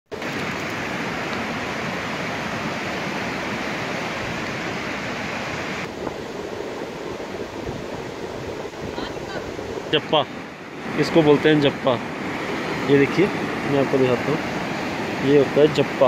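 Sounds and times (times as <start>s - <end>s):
flowing river water: 0.1s - 16.0s.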